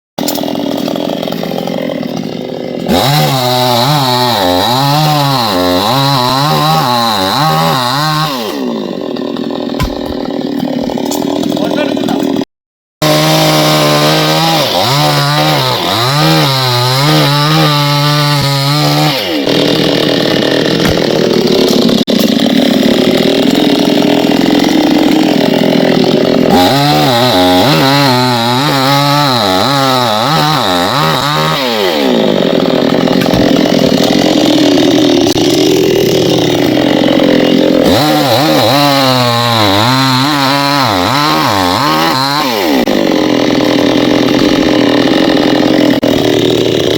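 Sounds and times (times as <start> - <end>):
chainsaw cutting wood: 0.2 - 46.9.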